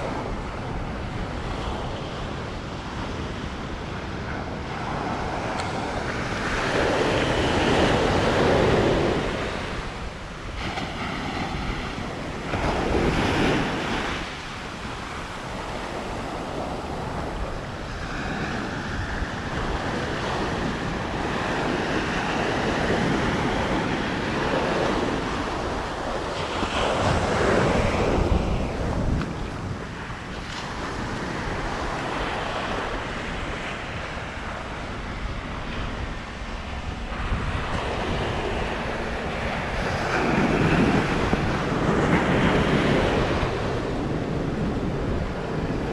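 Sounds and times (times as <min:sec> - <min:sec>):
ocean surf breaking on beach: 0:00.0 - 0:45.9
wind rumbling on microphone: 0:00.0 - 0:45.9.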